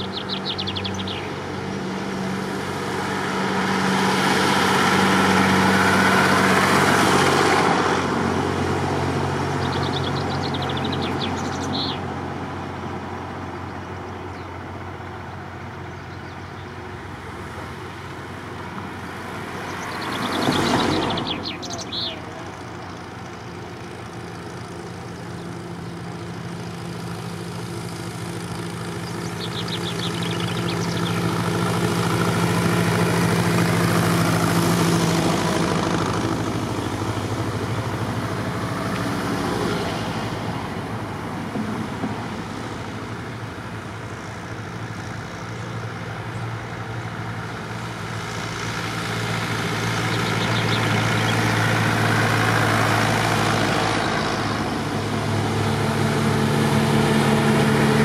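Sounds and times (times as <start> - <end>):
cars passing: 0.0 - 58.0
tractor engines running: 0.0 - 58.0.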